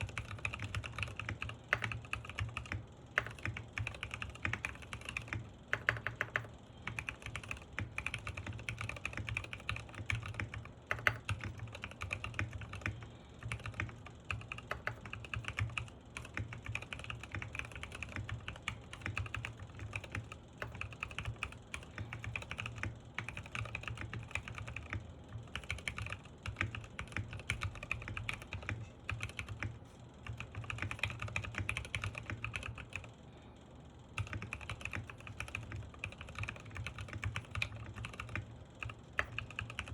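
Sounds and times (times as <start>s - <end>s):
fast typing on mechanical keyboard: 0.0s - 33.2s, 34.1s - 39.9s.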